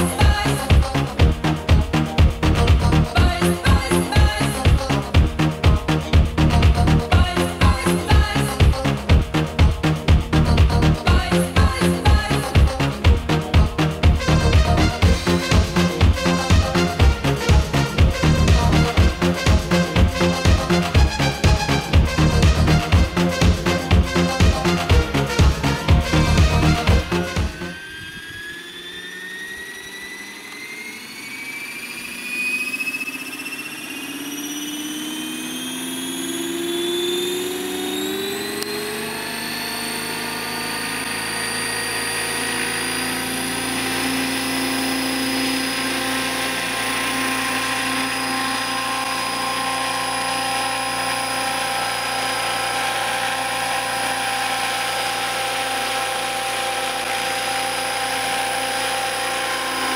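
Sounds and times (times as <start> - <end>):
model helicopter whine: 0.0 - 59.9.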